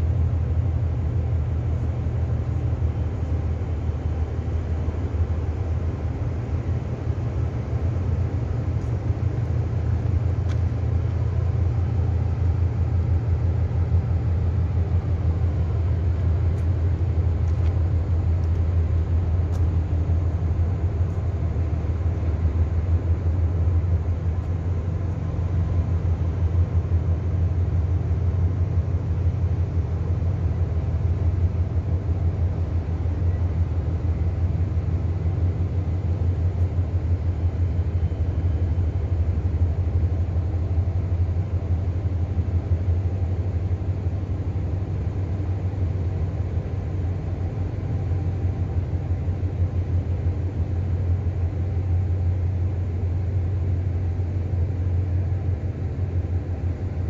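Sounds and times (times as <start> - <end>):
ship engine low rumble: 0.0 - 57.0.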